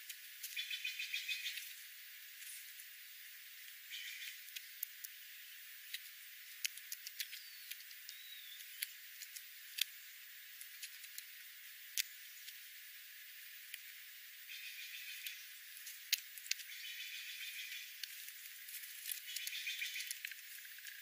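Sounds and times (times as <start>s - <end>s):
birds pecking seed off gravel: 0.0s - 3.0s, 3.6s - 12.7s, 14.5s - 21.0s
faint steady hiss: 0.0s - 21.0s.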